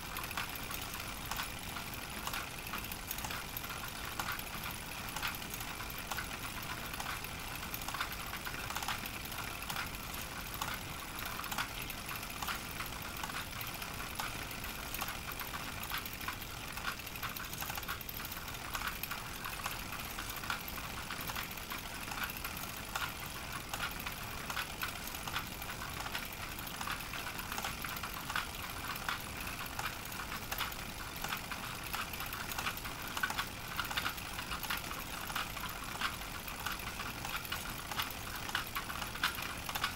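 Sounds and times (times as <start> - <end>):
film projector mechanical clatter: 0.0 - 39.9.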